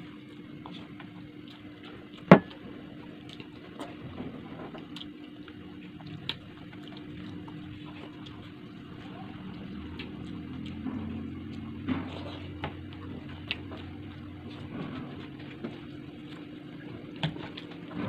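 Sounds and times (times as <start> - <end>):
person chewing food: 0.0 - 4.0, 4.8 - 18.0
steady low hum: 0.0 - 18.0.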